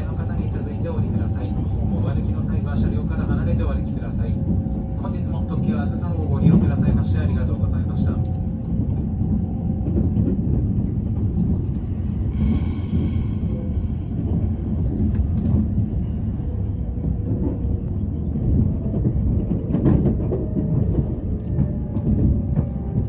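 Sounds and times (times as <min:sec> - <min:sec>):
train cabin rumble: 0:00.0 - 0:23.0.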